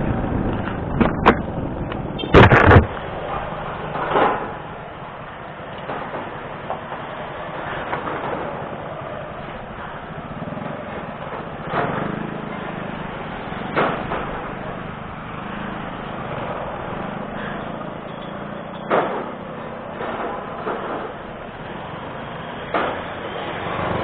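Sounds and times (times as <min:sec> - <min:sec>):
motorcycle engines idling: 0:02.9 - 0:24.0.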